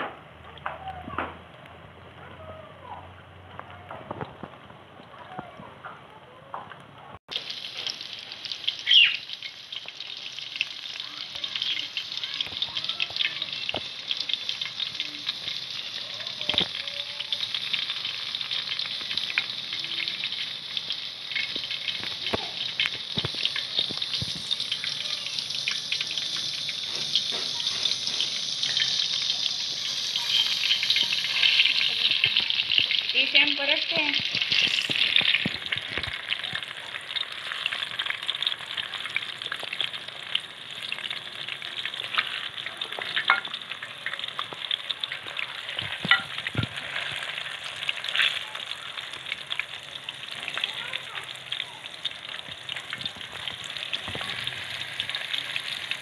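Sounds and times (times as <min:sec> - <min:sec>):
deep-frying crackling sizzle: 0:00.0 - 0:56.0.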